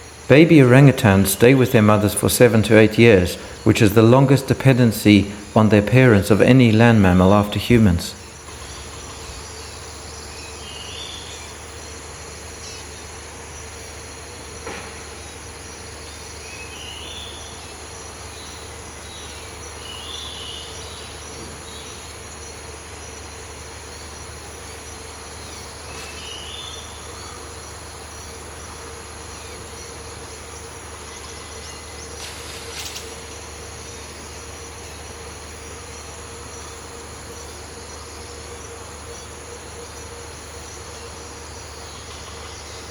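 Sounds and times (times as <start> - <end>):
insects shrilling: 0.0 - 42.9.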